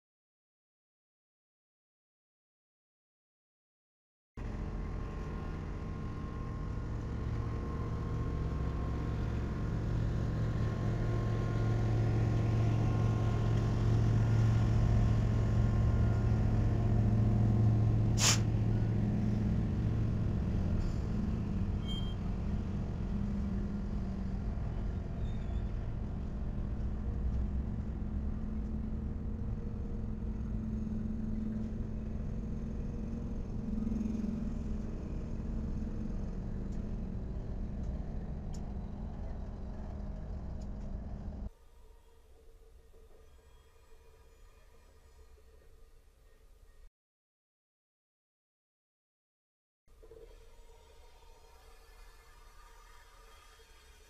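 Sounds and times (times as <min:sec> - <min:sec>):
diesel locomotive engine drone: 0:04.4 - 0:46.8, 0:49.9 - 0:54.0.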